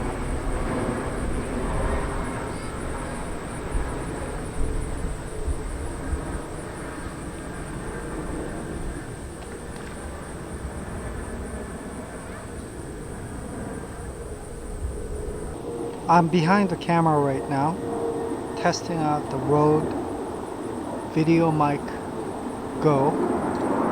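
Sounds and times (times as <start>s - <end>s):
pulsing high hiss: 0.0s - 23.9s.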